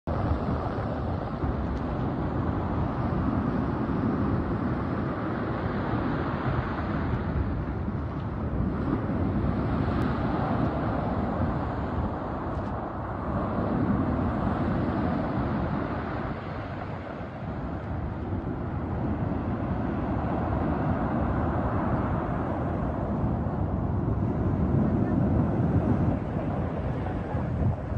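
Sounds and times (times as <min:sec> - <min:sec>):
wind rumbling on microphone: 0:00.0 - 0:27.9.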